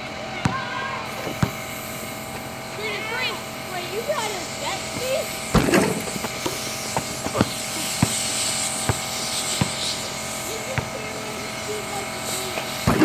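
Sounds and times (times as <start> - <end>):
steady mechanical hum: 0.0 - 13.0
ball bouncing on asphalt: 0.4 - 2.5, 4.4 - 13.0.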